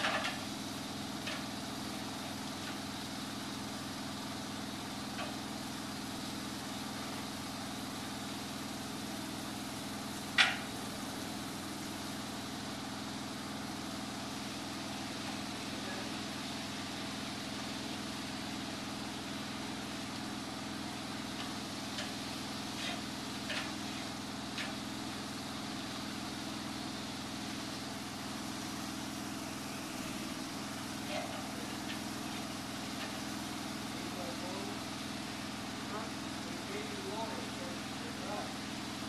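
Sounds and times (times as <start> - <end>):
pressure washer engine running: 0.0 - 39.0.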